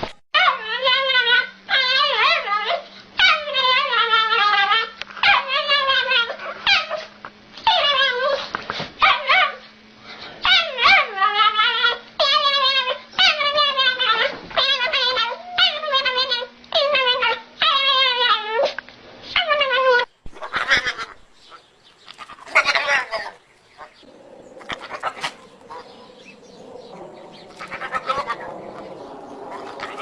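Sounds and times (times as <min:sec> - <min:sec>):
dog whining and yowling: 0:00.4 - 0:09.7, 0:10.4 - 0:30.0
faint steady hum: 0:00.4 - 0:30.0.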